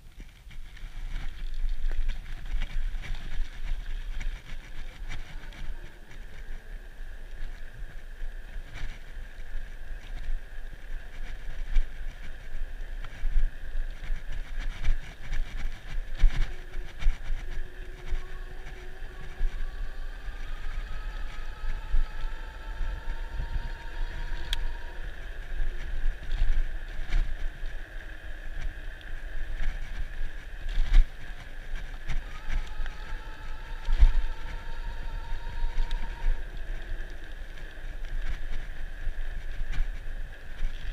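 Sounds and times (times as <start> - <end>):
wind on microphone: 0.0 - 40.9
electric bike motor whine: 0.6 - 40.9.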